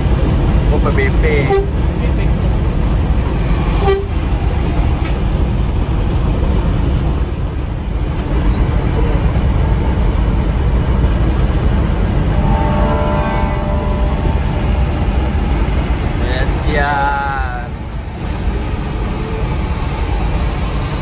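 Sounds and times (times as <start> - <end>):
diesel bus engine drone: 0.0 - 21.0.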